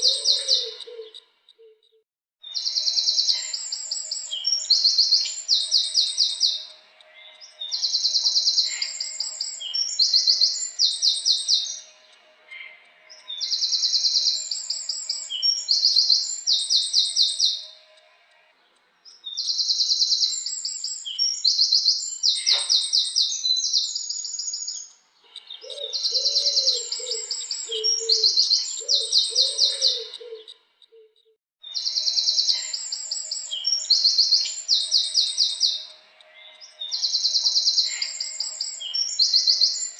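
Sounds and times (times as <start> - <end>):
wren singing fast trills: 0.0 - 1.2, 2.4 - 12.2, 13.0 - 18.0, 19.1 - 30.6, 31.6 - 39.9.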